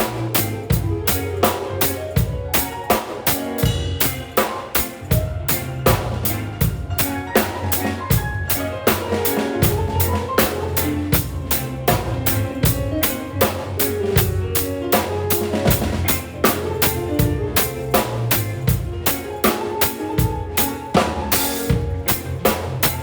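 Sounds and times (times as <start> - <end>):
band playing: 0.0 - 23.0
drum kit beat: 0.0 - 23.0.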